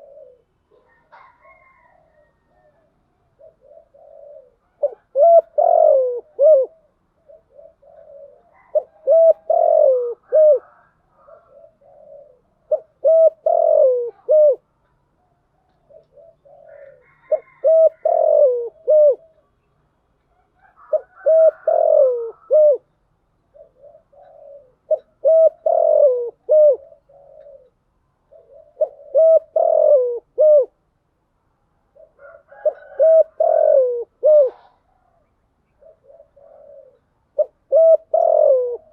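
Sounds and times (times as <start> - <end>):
dove cooing: 0.0 - 19.7, 20.3 - 30.8, 31.9 - 38.9.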